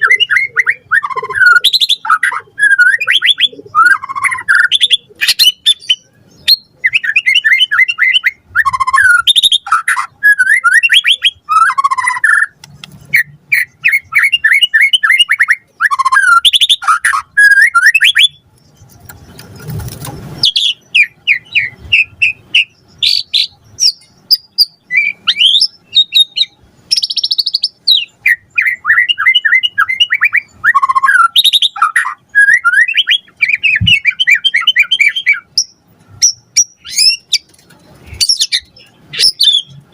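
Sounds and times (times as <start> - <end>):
bird singing whistled trills: 0.0 - 18.4, 20.4 - 37.4, 38.1 - 39.8.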